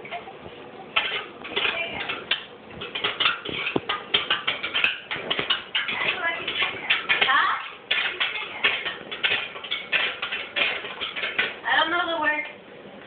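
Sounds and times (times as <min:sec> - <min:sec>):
metal pots clattering: 0:00.0 - 0:12.2.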